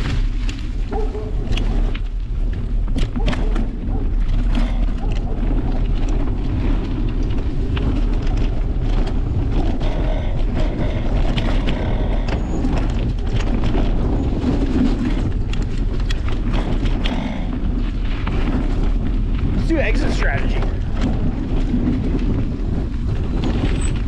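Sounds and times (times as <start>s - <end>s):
bike rattling and clicking: 0.0s - 24.0s
wind rumble on microphone: 0.0s - 24.0s.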